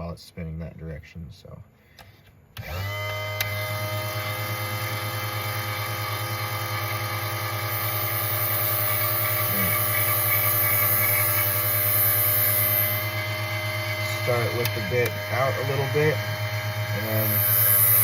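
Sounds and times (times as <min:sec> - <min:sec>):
electric motor humming: 0:02.6 - 0:18.0.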